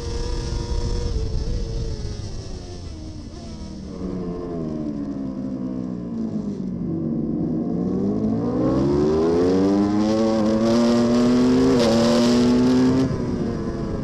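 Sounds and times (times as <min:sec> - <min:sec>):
superbike engine at full throttle: 0:00.0 - 0:14.0.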